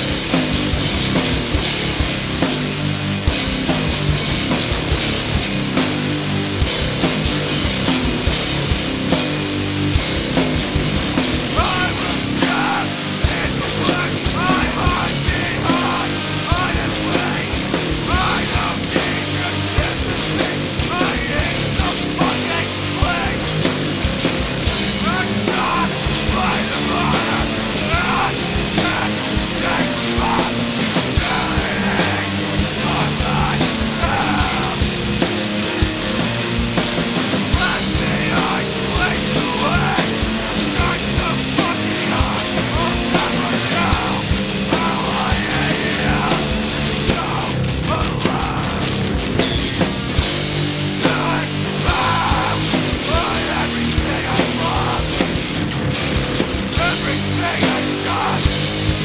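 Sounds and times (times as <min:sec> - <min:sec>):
heavy metal band playing: 0:00.0 - 0:59.0.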